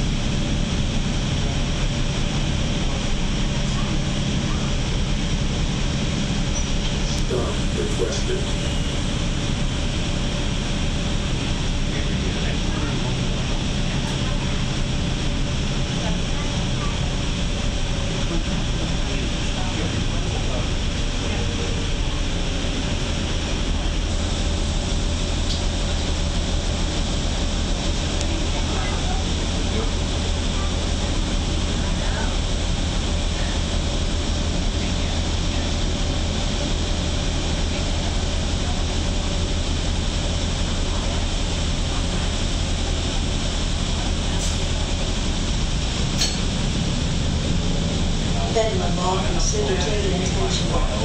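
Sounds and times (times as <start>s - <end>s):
bus cabin rumble: 0.0s - 51.0s
road and air-conditioning hiss: 0.0s - 51.0s.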